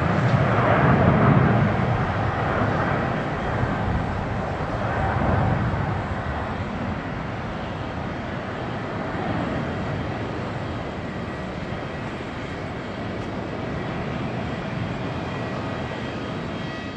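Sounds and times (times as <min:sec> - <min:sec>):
jet airliner taking off: 0:00.0 - 0:16.9.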